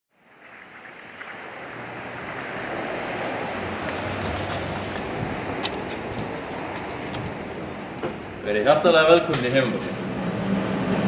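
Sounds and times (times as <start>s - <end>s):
steady rushing noise: 0.3s - 11.0s.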